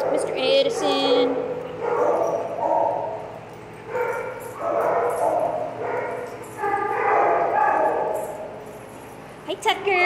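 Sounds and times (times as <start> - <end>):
dogs barking and yowling: 0.0 - 8.9.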